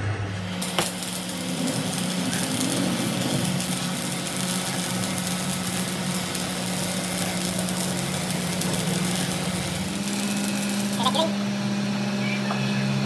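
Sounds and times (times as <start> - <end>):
workshop machine humming: 0.0 - 13.0.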